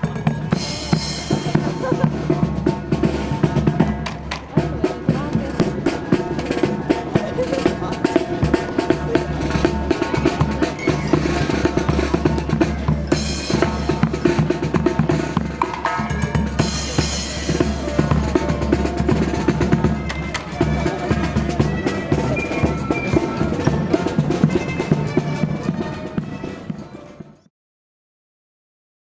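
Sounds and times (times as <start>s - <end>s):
snare and bass drums: 0.0s - 27.0s
marching brass band playing: 0.0s - 27.3s.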